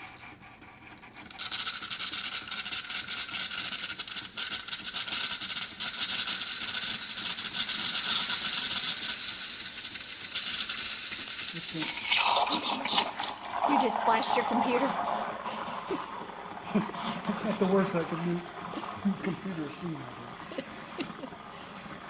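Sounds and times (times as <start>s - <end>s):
espresso machine steam wand hissing: 0.0s - 22.0s.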